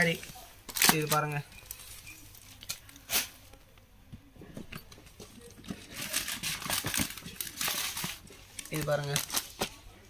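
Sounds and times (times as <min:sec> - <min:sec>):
wrapping crinkling and rustling: 0:00.0 - 0:03.6, 0:05.0 - 0:09.9.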